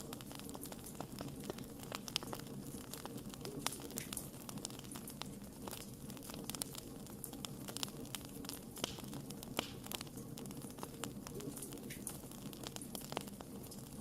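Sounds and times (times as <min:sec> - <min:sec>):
hiss of flames: 0:00.0 - 0:14.0
wood fire popping and crackling: 0:00.0 - 0:14.0.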